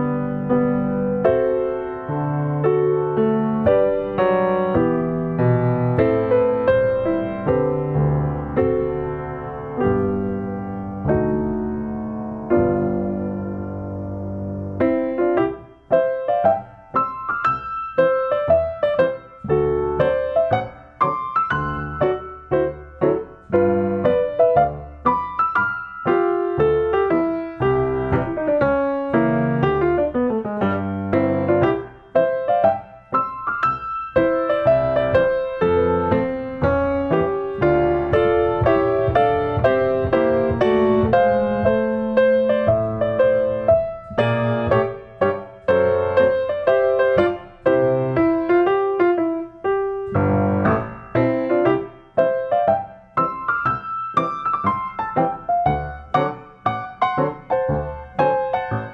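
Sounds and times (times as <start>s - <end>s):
piano music: 0.0s - 58.9s.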